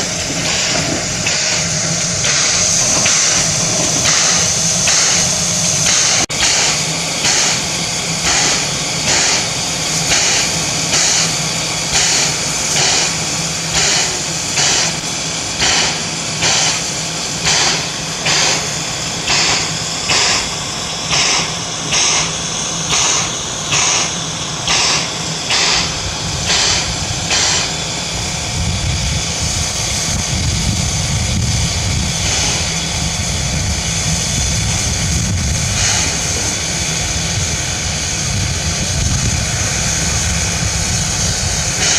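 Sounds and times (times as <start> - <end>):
rolling train rumble: 0.0 - 41.9
steam locomotive chuffing: 0.0 - 41.9.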